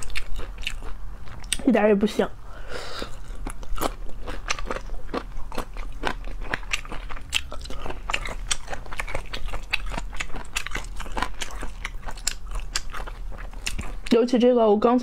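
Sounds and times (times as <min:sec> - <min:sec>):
wet crunchy chewing: 0:00.0 - 0:01.7, 0:03.0 - 0:14.2.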